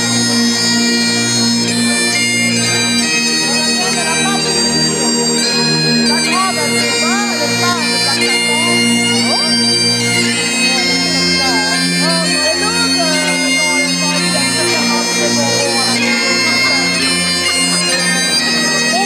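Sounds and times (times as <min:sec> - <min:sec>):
bagpipes playing: 0:00.0 - 0:19.0.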